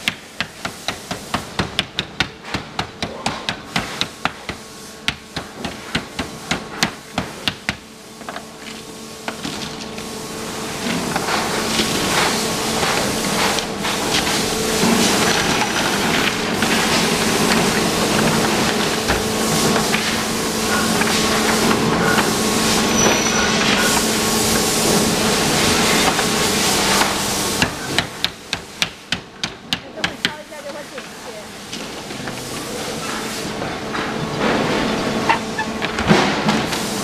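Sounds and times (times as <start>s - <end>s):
factory machinery hum: 0.0s - 37.0s.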